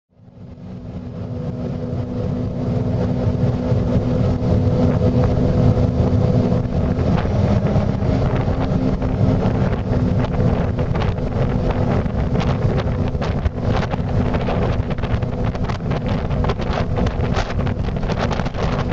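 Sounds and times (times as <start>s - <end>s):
boat engine running: 0.1s - 18.9s
wind buffeting microphone: 0.2s - 18.9s.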